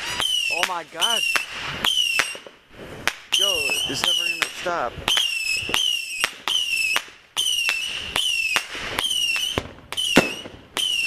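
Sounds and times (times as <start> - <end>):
firework cracks: 0.0 - 11.0
firework whistles: 0.0 - 11.0.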